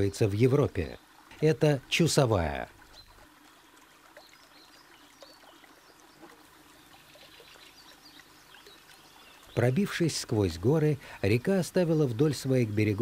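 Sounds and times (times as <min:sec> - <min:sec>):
river water trickling and lapping: 0:00.0 - 0:13.0.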